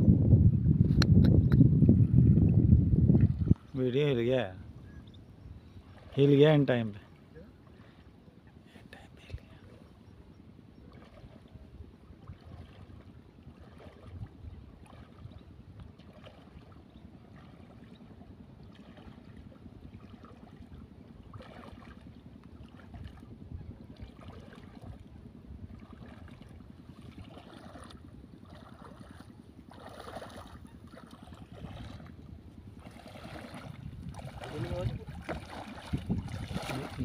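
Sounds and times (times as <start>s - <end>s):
low wind rumble: 0.0s - 37.0s
water lapping at shoreline: 0.9s - 37.0s.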